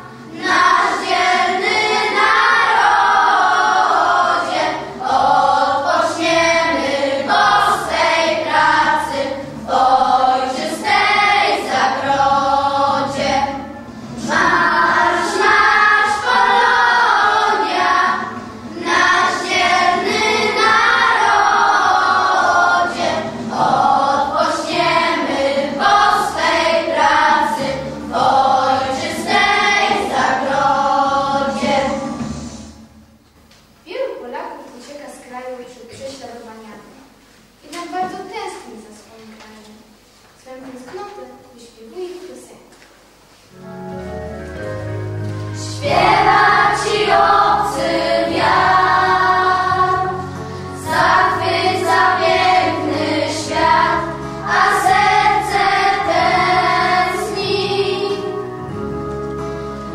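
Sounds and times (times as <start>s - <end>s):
children's choir singing: 0.0s - 33.0s, 44.7s - 59.9s.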